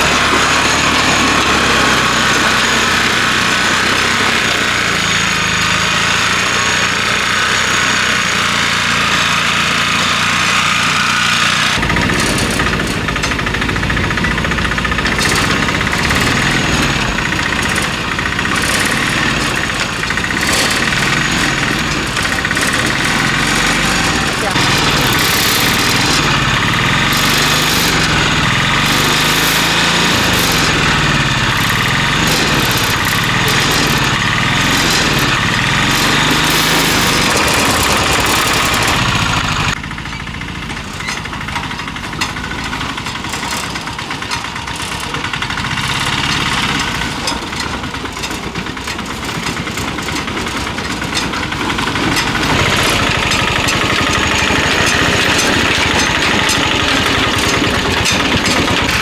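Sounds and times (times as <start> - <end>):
autorickshaw engine running: 0.0 - 59.0.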